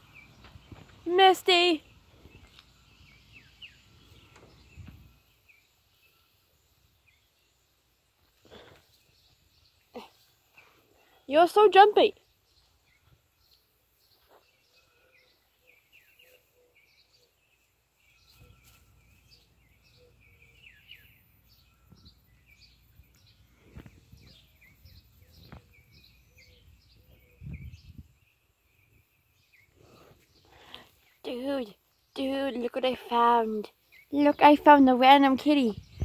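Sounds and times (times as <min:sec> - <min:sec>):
faint birds chirping: 0:00.0 - 0:36.0.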